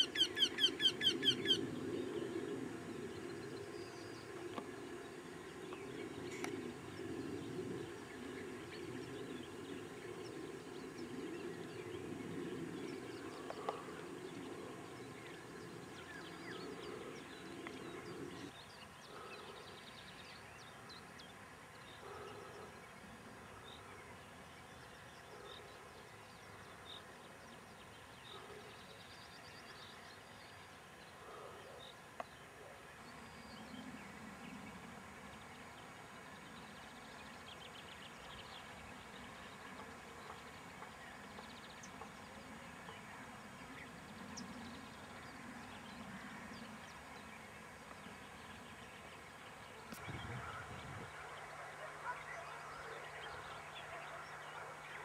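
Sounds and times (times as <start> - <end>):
low steady background noise: 0.0 - 55.0.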